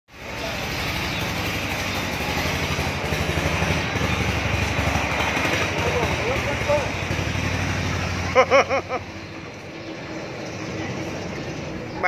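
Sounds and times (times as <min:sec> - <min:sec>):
small engine idling: 0:00.1 - 0:12.0.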